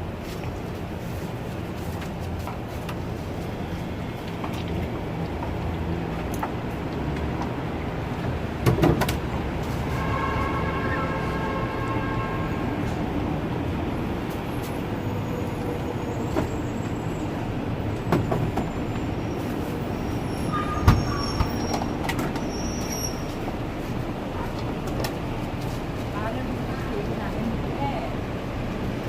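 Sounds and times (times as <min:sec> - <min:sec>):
urban rumble: 0:00.0 - 0:29.0.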